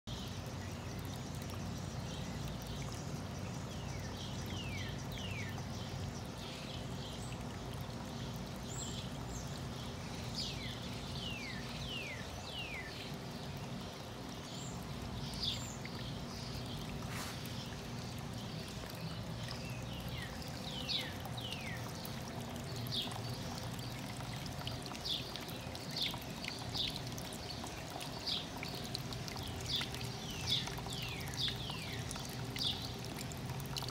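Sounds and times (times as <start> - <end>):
water trickling into pond: 0.0 - 33.9.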